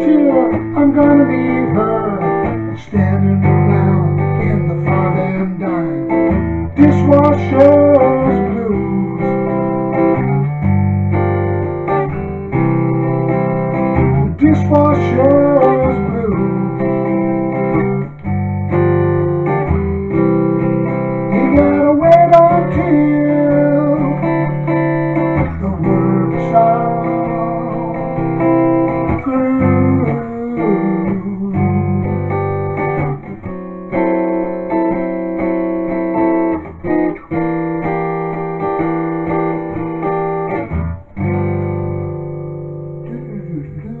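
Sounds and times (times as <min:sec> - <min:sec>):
acoustic guitar blues playing: 0:00.0 - 0:44.0.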